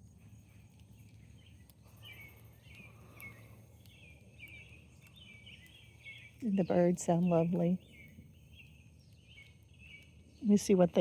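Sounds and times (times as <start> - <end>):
robins chirping: 0.7 - 11.0.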